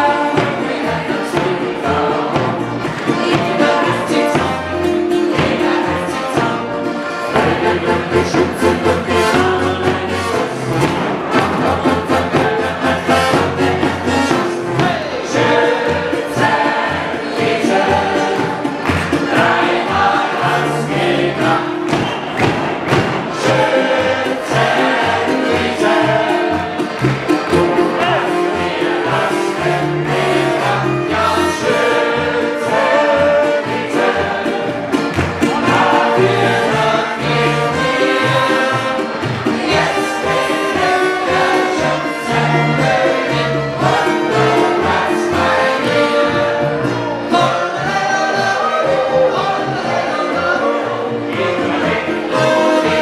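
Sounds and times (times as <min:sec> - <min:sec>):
music with singing: 0:00.0 - 0:53.0
steady bass line: 0:00.0 - 0:53.0.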